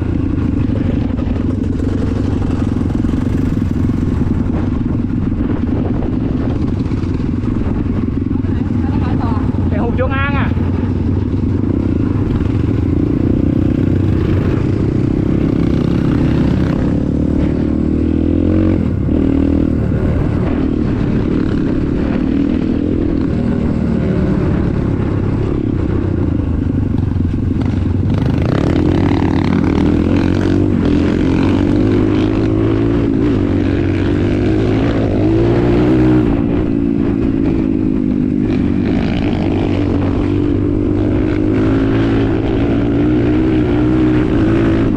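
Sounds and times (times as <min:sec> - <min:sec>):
engine running at low revs: 0:00.0 - 0:44.9.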